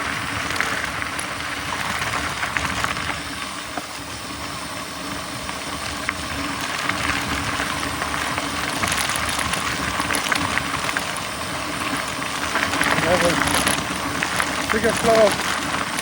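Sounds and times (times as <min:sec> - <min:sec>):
bike rattles and clicks: 0:00.0 - 0:16.0
bike tyres on rough trail: 0:00.0 - 0:16.0.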